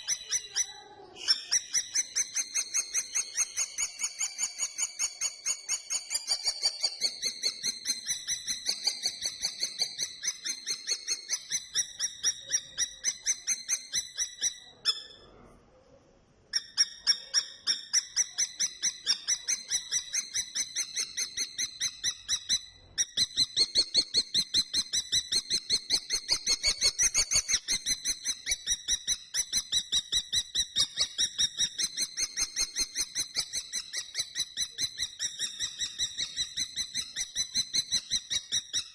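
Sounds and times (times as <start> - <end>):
kestrel calling: 0.0 - 15.2, 16.5 - 38.9.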